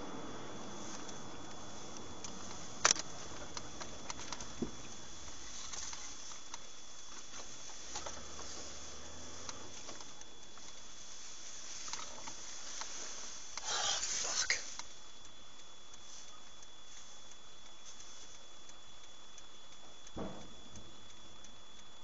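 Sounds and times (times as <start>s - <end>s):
faint high whine: 0.0s - 22.0s
microphone hiss in moving vehicle: 0.0s - 22.0s
sharp clicks and ticks: 0.6s - 22.0s.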